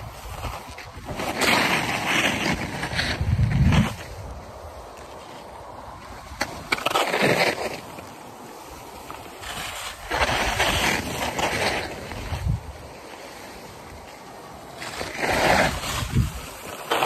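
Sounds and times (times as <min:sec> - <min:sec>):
skis scraping across snow: 0:00.0 - 0:17.0.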